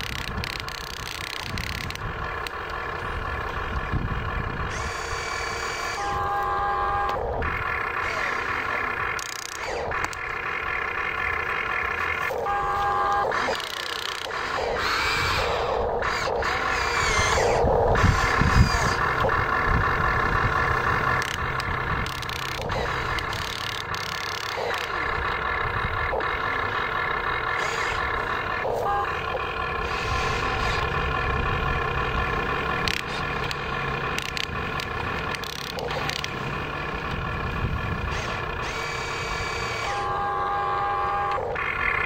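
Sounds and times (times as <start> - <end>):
toy excavator mechanical whirr: 0.0 - 42.0.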